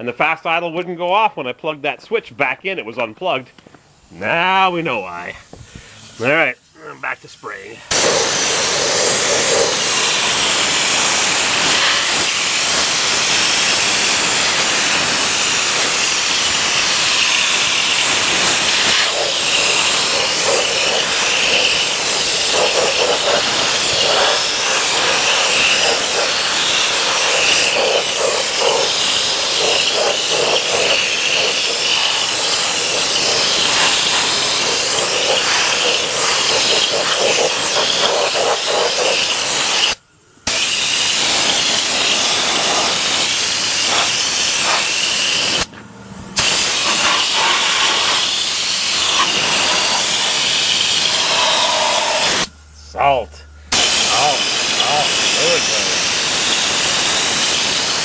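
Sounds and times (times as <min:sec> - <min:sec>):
spray gun hissing: 0:05.3 - 0:45.7, 0:46.4 - 0:52.5, 0:53.7 - 0:58.0.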